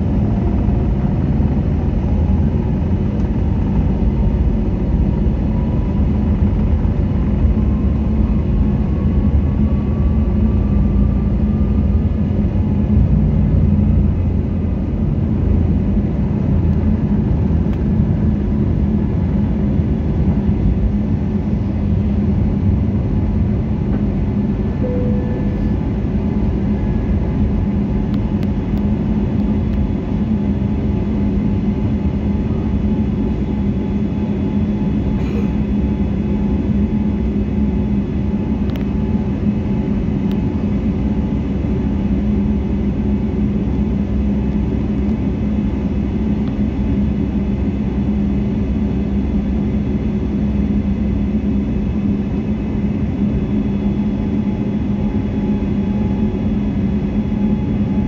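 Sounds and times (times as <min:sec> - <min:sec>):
jet engine rumble: 0:00.0 - 0:58.0
jet engine whine rising: 0:00.0 - 0:58.0.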